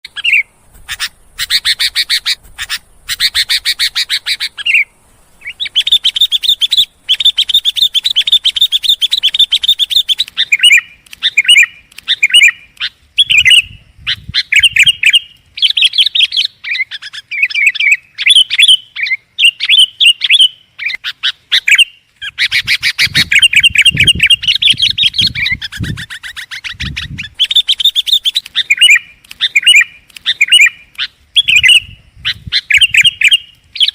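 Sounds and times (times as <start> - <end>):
bulbul chattering song: 0.0 - 33.9.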